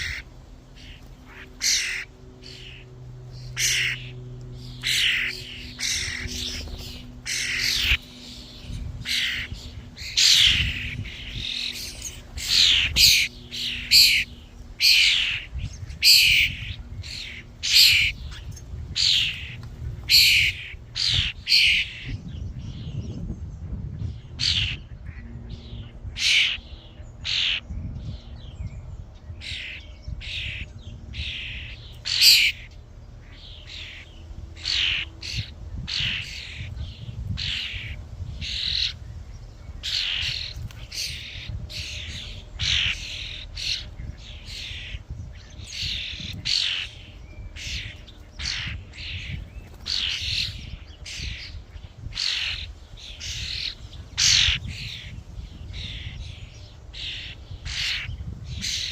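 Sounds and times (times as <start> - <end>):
starlings rasping calls: 0.0 - 23.2, 24.0 - 58.9.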